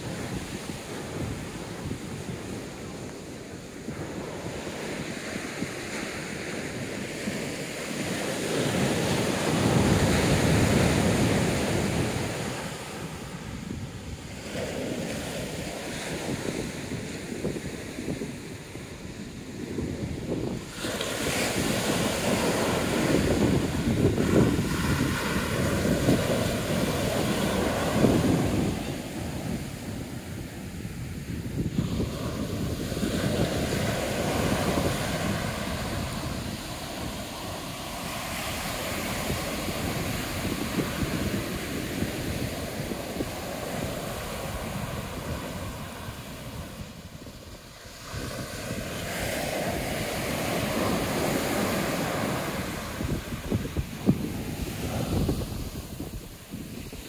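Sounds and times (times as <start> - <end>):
ocean surf breaking on beach: 0.0 - 57.0
wind rumbling on microphone: 0.0 - 57.0.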